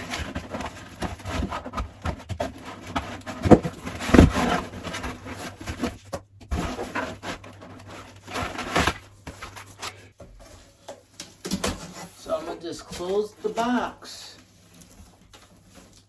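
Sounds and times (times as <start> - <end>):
cardboard rustling and scraping: 0.0 - 16.0.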